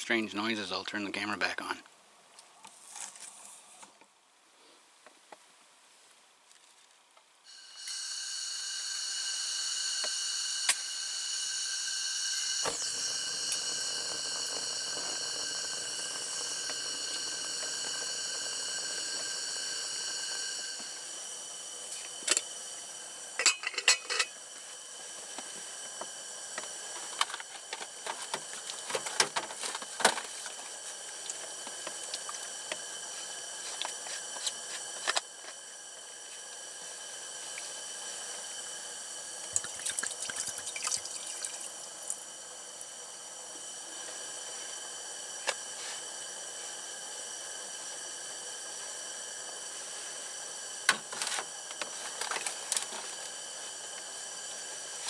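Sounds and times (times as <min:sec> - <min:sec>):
gas heater hissing and whistling: 0:07.4 - 0:55.0.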